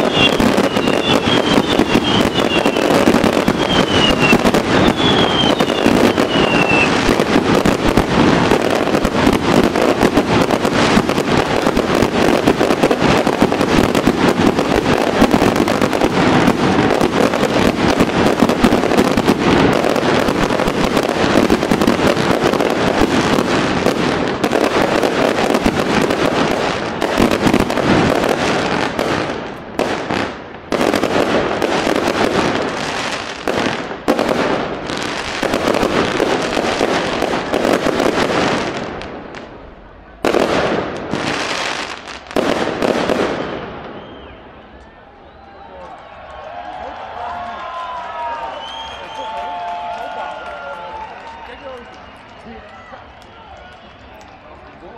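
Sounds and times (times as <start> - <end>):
fireworks falling whistles: 0.0 - 39.5, 40.2 - 46.1, 48.3 - 50.3, 50.9 - 54.5
fireworks bangs and crackling: 0.0 - 54.9.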